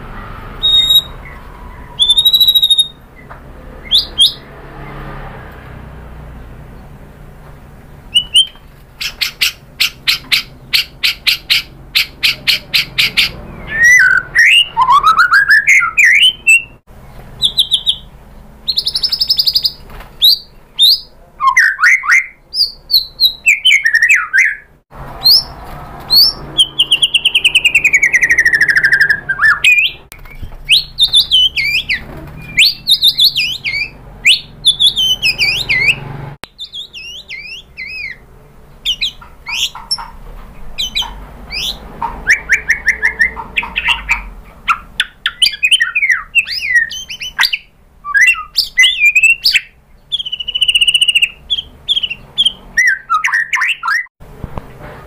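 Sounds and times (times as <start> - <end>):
bird singing whistles and trills: 0.6 - 4.5, 8.1 - 16.8, 17.4 - 24.7, 26.1 - 38.2, 38.8 - 40.0, 40.8 - 54.1.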